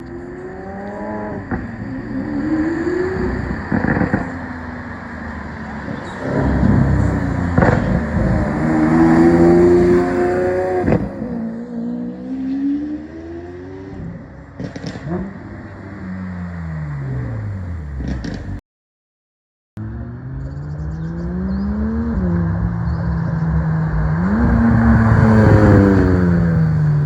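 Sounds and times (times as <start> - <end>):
car engines accelerating: 0.0 - 18.6, 19.8 - 27.0.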